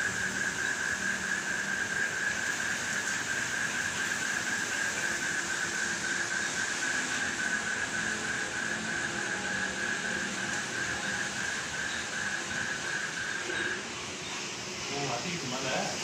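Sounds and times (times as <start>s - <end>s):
wind blowing through trees: 0.0s - 16.0s.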